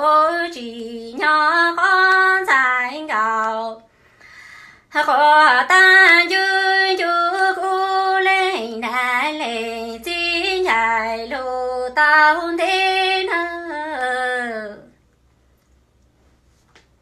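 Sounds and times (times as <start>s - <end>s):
woman singing unaccompanied: 0.0s - 3.9s, 4.9s - 15.0s.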